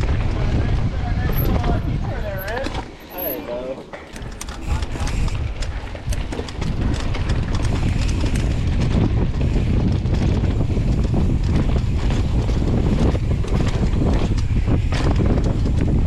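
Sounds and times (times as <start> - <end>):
wind buffeting microphone: 0.0 - 3.0, 4.1 - 16.0
bike rattling and clacking: 0.0 - 16.0
bike tyres rumbling: 0.0 - 16.0.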